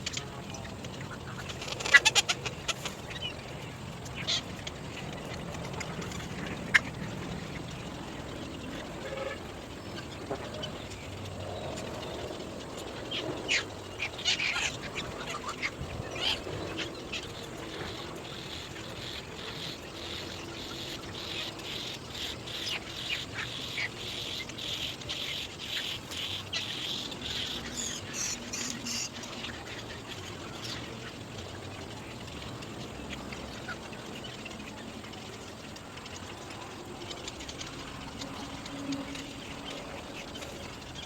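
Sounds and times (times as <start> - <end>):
birds calling harshly: 0.0 - 41.0.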